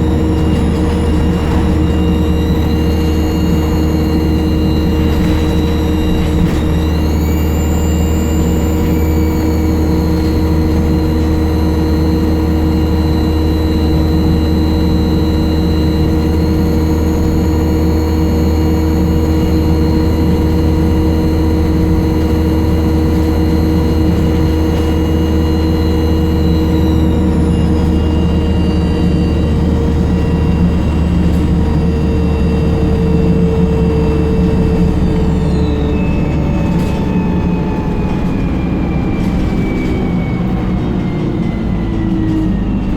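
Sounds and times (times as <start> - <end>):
bus diesel engine drone: 0.0 - 42.9
high turbo whistle: 0.0 - 42.9.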